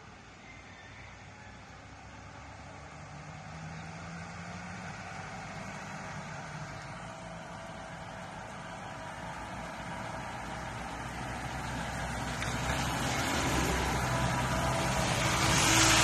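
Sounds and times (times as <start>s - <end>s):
vehicles approaching: 0.0s - 16.0s.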